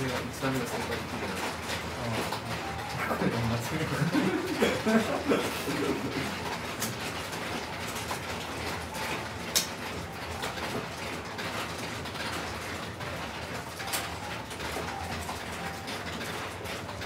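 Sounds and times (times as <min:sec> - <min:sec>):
mahjong tiles clicking: 0:00.0 - 0:17.0.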